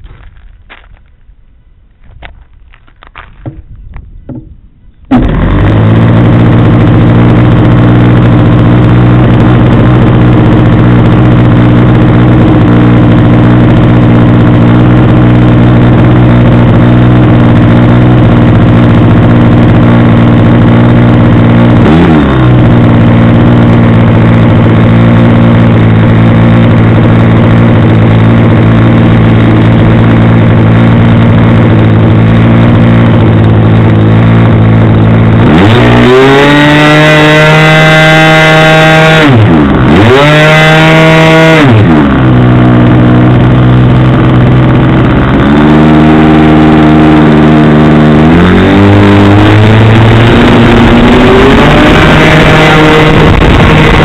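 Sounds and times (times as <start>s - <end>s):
model airplane engine running: 5.1s - 54.0s.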